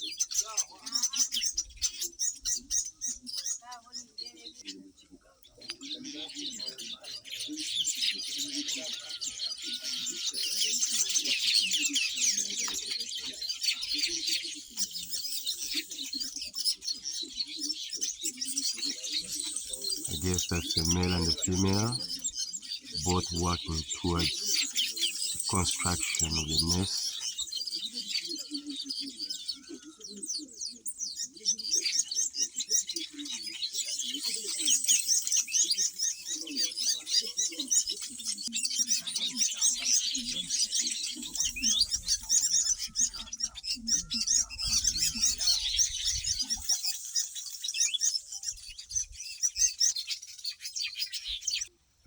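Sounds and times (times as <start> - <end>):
weaver birds chattering: 0.0 - 51.7.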